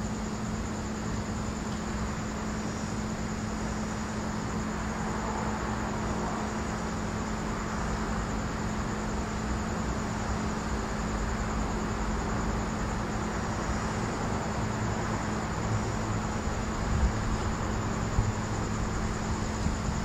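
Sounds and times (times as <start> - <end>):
continuous hiss: 0.0 - 20.0
insect trill: 0.0 - 20.0.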